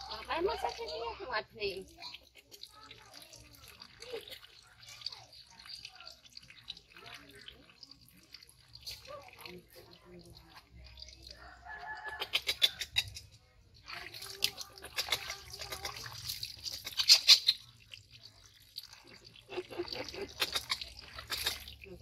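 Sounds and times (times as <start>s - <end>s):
water splashing and dripping: 0.0s - 22.0s.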